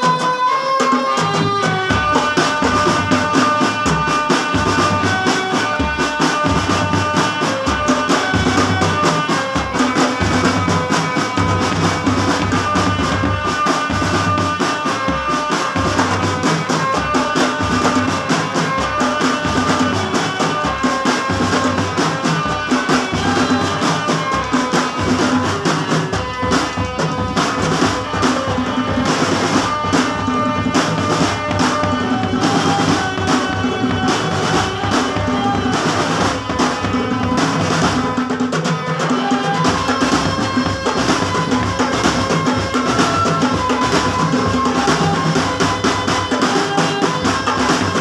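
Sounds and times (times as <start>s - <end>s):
held melody line: 0.0s - 48.0s
snare drums: 0.0s - 48.0s.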